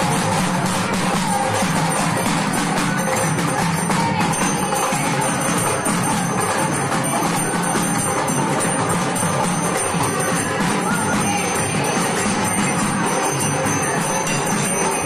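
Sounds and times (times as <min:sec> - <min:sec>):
music with percussion and bells: 0:00.0 - 0:15.0.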